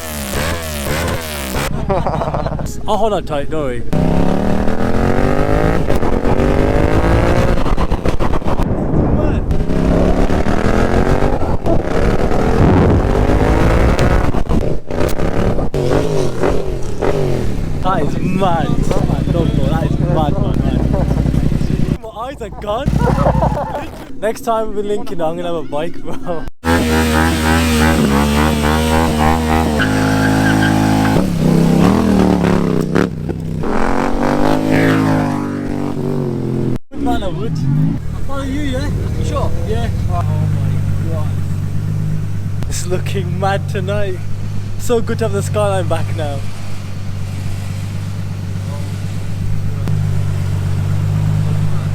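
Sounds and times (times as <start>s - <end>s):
car engine accelerating hard: 0.0s - 22.0s, 26.6s - 51.9s.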